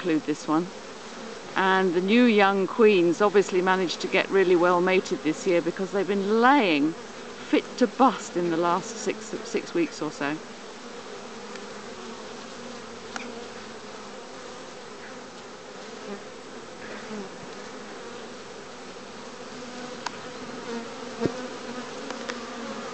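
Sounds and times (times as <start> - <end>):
bees buzzing: 0.0 - 22.9.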